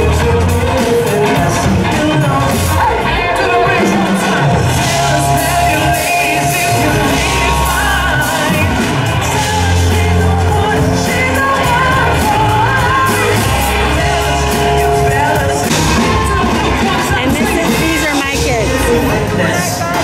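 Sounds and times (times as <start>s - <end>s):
bass guitar: 0.0s - 20.0s
drum kit: 0.0s - 20.0s
electric guitars: 0.0s - 20.0s
man singing: 0.0s - 20.0s.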